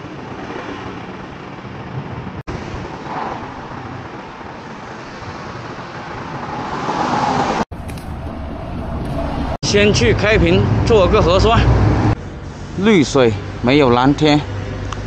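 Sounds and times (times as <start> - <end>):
road traffic noise: 0.0 - 15.0
car passing: 2.5 - 14.9.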